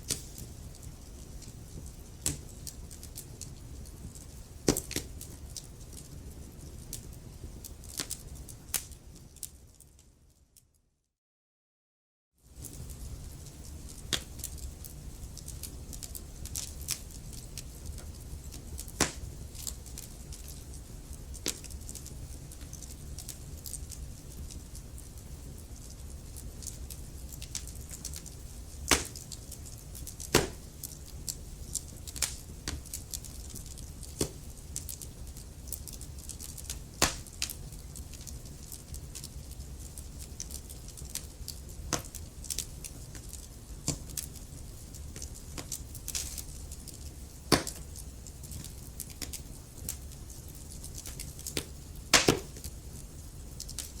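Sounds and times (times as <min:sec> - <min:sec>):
logs crackling in fireplace: 0:00.0 - 0:10.7, 0:12.4 - 0:54.0.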